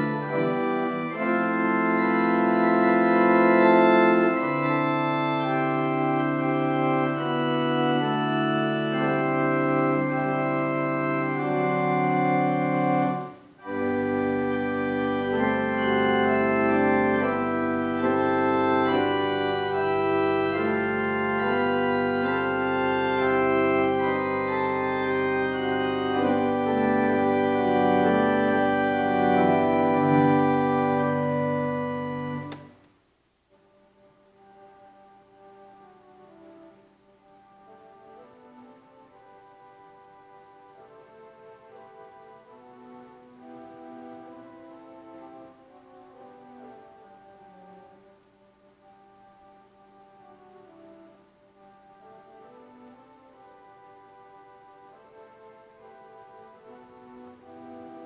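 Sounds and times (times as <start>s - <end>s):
organ playing slow chords: 0.0s - 32.8s, 33.5s - 58.0s.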